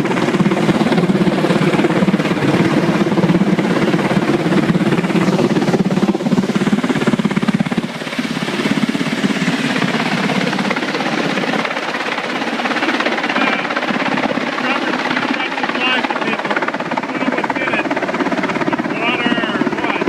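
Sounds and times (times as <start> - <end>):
helicopter rotor blades chopping: 0.0 - 20.0.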